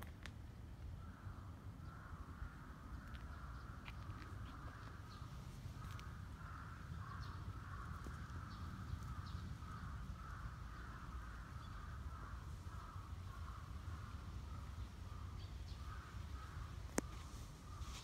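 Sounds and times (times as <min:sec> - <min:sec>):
distant bird calls: 0:01.0 - 0:18.0.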